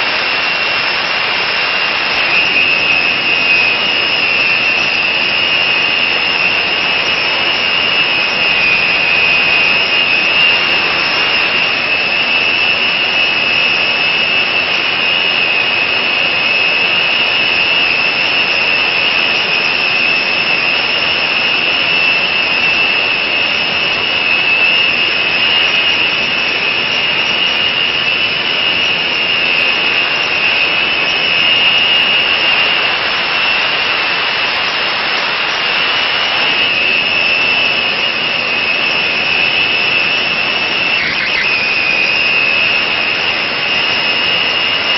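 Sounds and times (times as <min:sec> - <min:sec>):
high whistling exhaust: 0:00.0 - 0:44.9.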